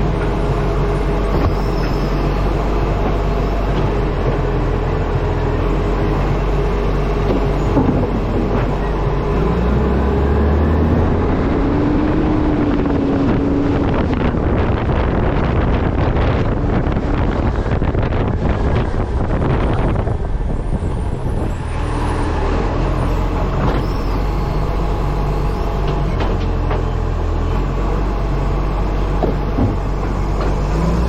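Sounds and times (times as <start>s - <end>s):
truck road and engine noise: 0.0s - 31.0s
wind buffeting microphone: 0.0s - 31.0s.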